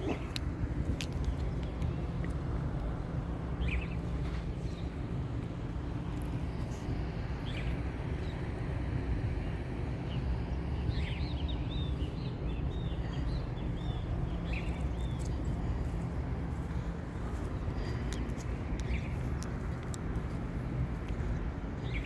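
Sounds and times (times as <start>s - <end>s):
small birds chirping: 0.0s - 8.4s, 10.0s - 22.0s
steady low rumble: 0.0s - 22.0s.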